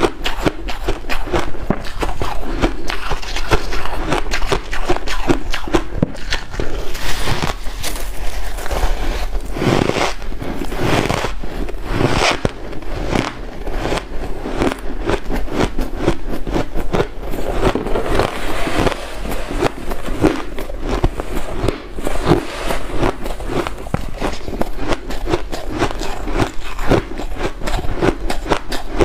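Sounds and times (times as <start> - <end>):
ice being crunched and chewed: 0.0 - 29.0.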